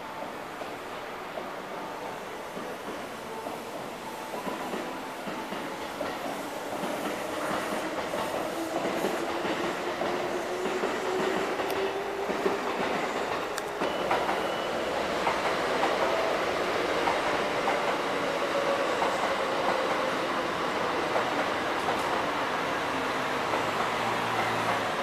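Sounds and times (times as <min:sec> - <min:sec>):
steady train rumble: 0:00.0 - 0:25.0.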